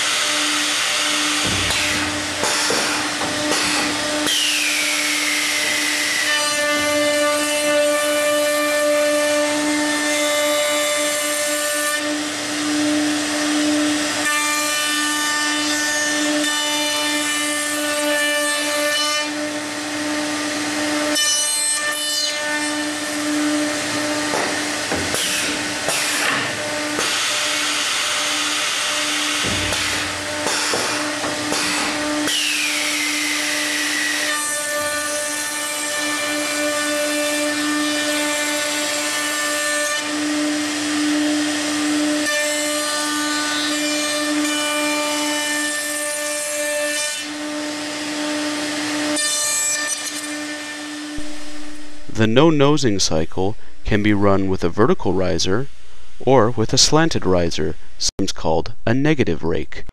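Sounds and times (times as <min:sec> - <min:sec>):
router bits cutting wood: 0:00.0 - 0:51.9.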